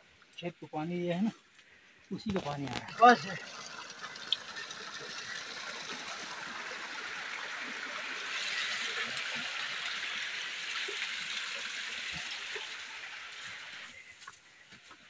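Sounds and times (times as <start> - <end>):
water trickling in a cave: 0.2 - 15.0.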